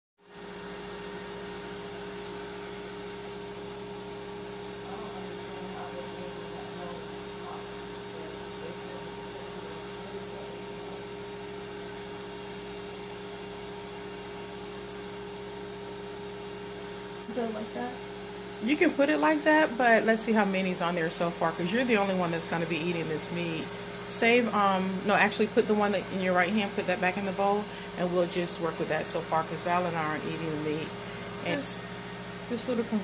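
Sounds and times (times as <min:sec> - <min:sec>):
air fryer fan humming: 0:00.3 - 0:33.0.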